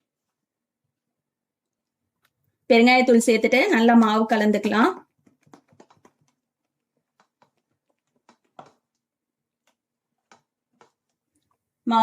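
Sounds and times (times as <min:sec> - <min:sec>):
batter being mixed in a bowl: 0:01.5 - 0:11.9.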